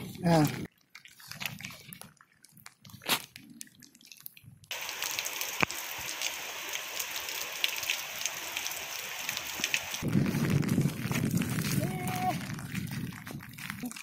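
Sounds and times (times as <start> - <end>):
rain and running water: 0.0 - 14.0
water over wet rock: 0.0 - 14.0.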